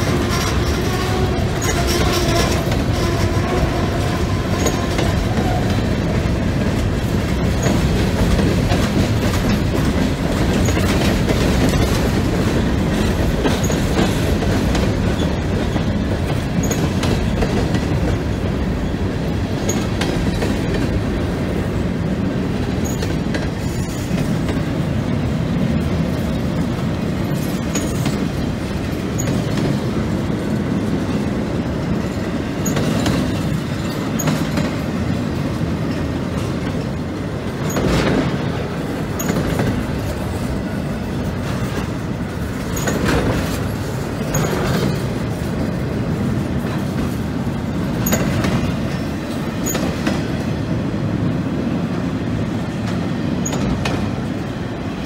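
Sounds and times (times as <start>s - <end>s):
freight train wheels clacking: 0.0s - 55.0s.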